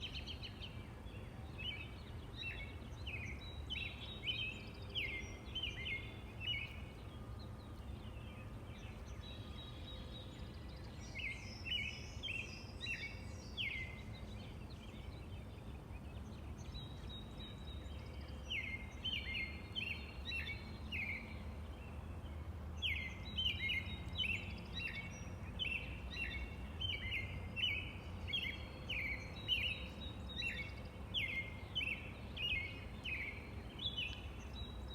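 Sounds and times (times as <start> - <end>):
robin singing: 0.0 - 34.9.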